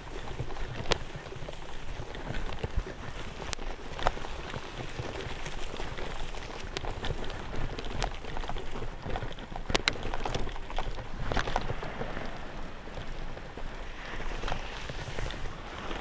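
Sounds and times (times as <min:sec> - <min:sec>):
bicycle tyres crunching over sand: 0:00.0 - 0:16.0
bike clicks and rattles: 0:00.0 - 0:16.0.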